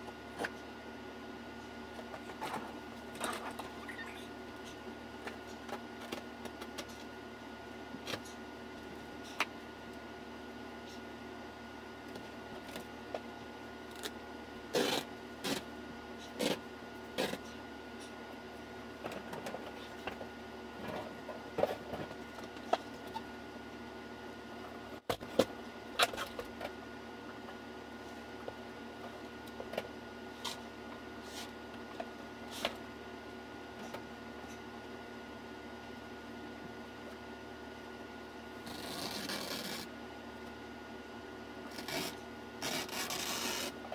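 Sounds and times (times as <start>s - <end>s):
steady room hum: 0.0s - 43.9s.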